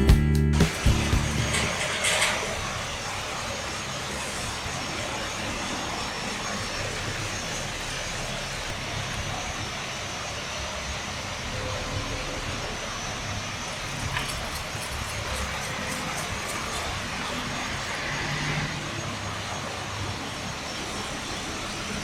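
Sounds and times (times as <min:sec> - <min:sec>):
moving vehicle rumble and hiss: 0:00.6 - 0:22.0.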